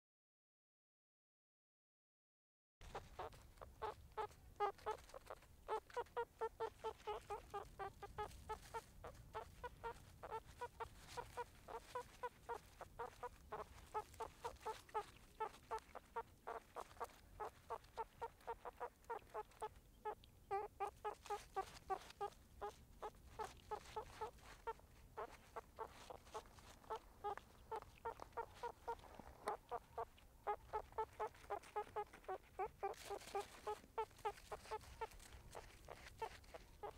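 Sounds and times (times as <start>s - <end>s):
meerkats calling: 2.8s - 36.9s.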